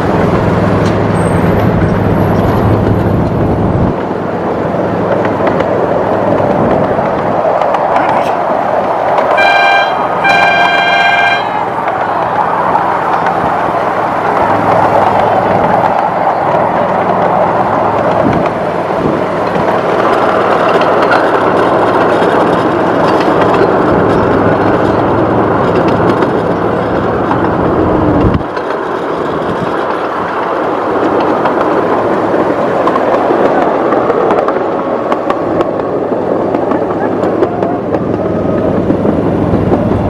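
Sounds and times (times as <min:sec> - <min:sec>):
train wheels clattering on rails: 0:00.0 - 0:40.0.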